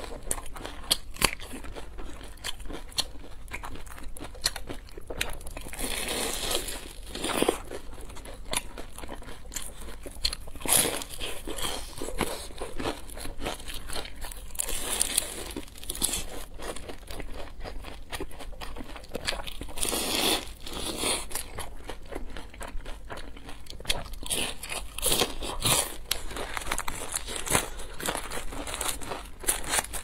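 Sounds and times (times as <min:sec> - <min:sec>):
crunching fried food: 0:00.0 - 0:30.0.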